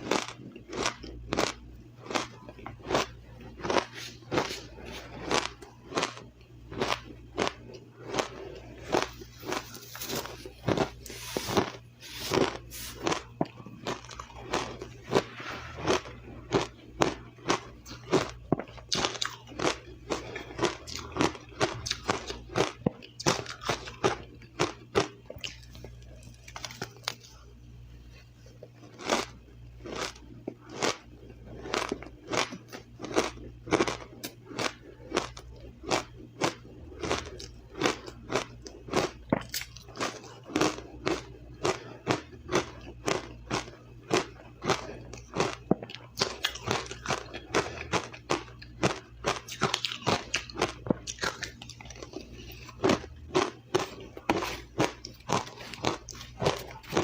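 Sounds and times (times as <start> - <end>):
ice crunching while chewed: 0.0 - 27.6, 28.2 - 57.0.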